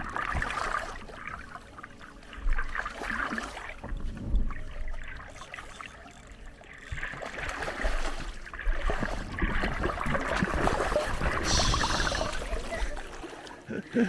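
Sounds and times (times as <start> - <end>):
stream water running and splashing: 0.0 - 14.0.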